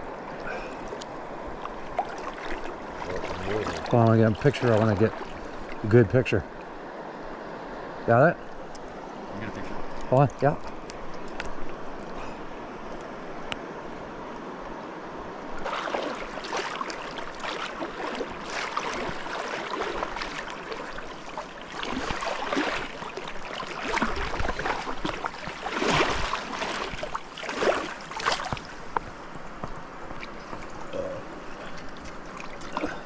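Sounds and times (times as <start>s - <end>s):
water rushing and splashing: 0.0s - 33.0s.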